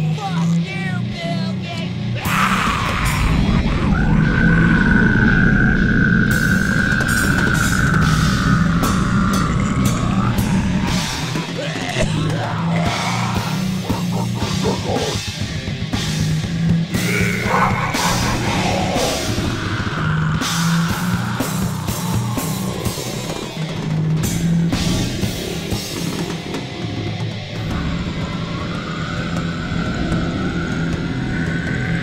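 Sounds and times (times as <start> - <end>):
grindcore music: 0.4 - 32.0.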